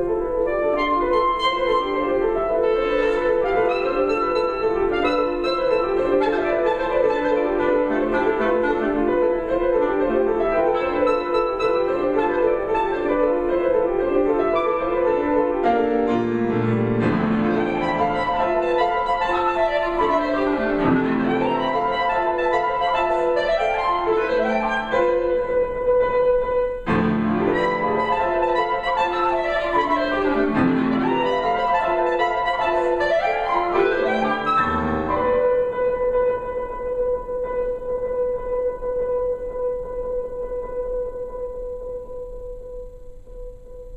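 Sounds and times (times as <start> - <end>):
clarinet playing fast lines: 0.0 - 42.5
piano playing: 0.0 - 43.9.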